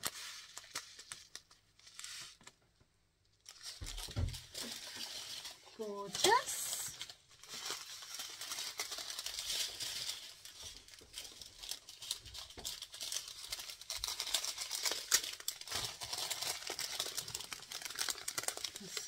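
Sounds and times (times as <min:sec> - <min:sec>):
plastic packets crinkling: 0:00.0 - 0:02.6, 0:03.4 - 0:19.0.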